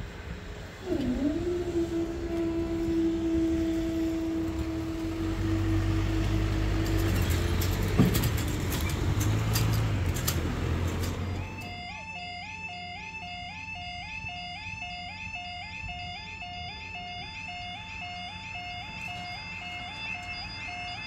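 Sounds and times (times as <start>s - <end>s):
vehicle engines humming: 0.0s - 13.9s, 15.8s - 21.0s.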